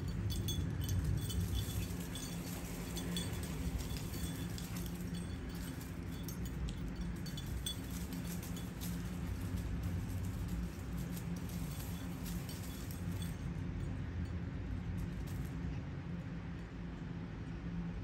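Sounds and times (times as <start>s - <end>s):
light clinks and ticks: 0.0s - 17.6s
steady low rumble: 0.0s - 18.0s.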